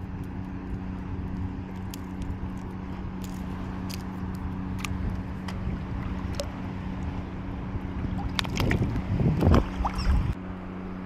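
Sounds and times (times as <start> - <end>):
sea water sloshing: 0.0 - 10.4
water splashing: 0.0 - 10.4
wind on microphone: 0.0 - 10.4
low hum: 0.0 - 11.0.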